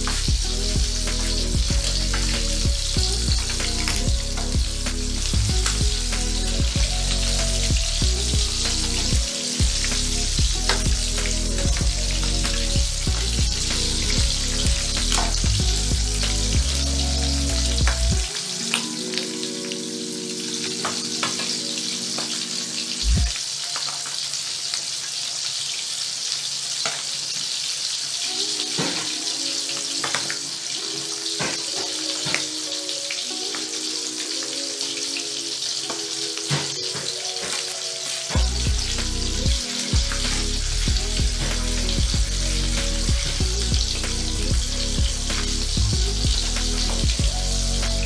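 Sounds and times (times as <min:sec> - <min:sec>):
background music: 0:00.0 - 0:26.8, 0:27.6 - 0:48.0
fish sizzling in hot oil: 0:00.0 - 0:48.0.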